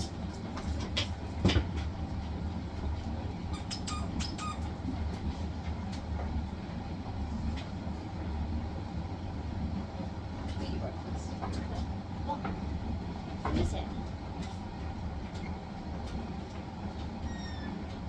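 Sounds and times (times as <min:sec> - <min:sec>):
washing machine spin cycle rumble: 0:00.0 - 0:18.0.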